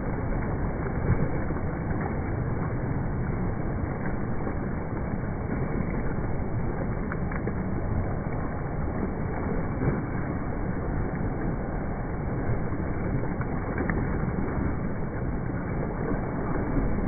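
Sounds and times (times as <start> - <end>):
water splashing from kicking: 0.0 - 17.0.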